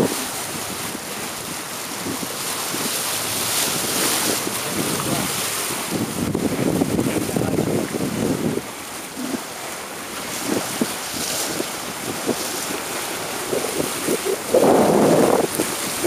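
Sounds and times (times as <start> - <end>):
waves rushing: 0.0 - 16.0
wind buffeting microphone: 0.0 - 16.0.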